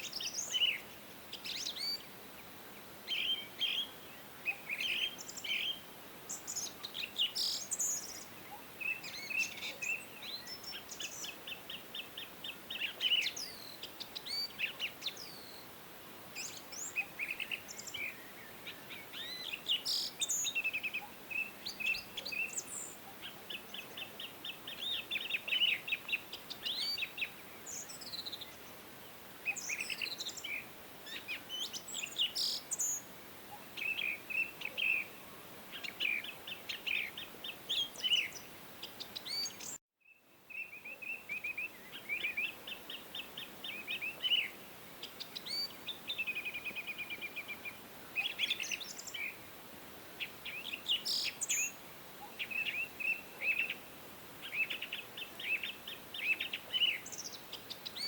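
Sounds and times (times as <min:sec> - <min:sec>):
background hiss: 0:00.0 - 0:58.0
songbirds chirping: 0:00.0 - 0:58.0.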